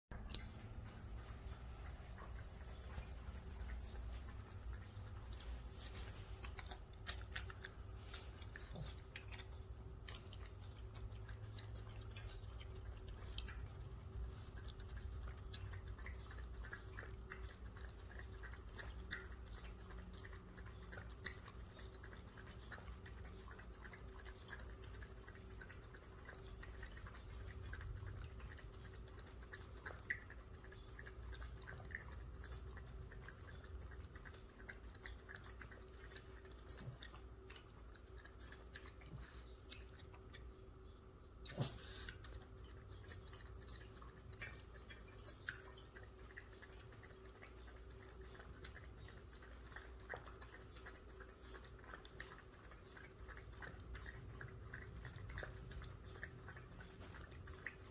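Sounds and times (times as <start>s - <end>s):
dog lapping water: 0.1s - 57.9s.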